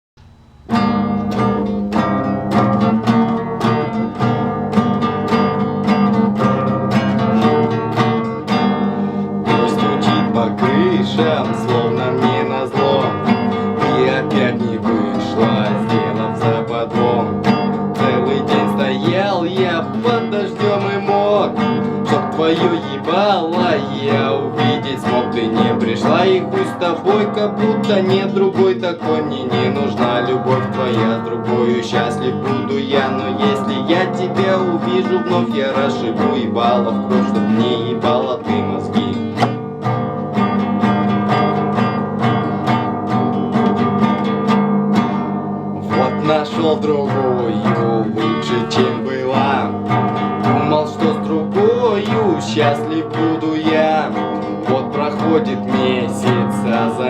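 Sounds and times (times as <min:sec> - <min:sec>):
acoustic guitar strumming: 0:00.2 - 0:57.0.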